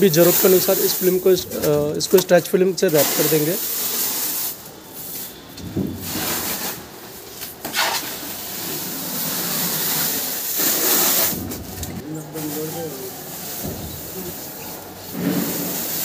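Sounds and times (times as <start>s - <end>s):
plastic film crackling: 0.0s - 5.4s, 6.0s - 16.0s
rubbing of wrapped load: 0.0s - 16.0s.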